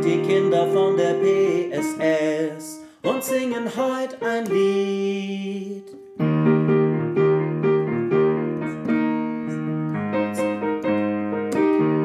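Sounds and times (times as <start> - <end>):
digital piano chords: 0.0 - 12.0.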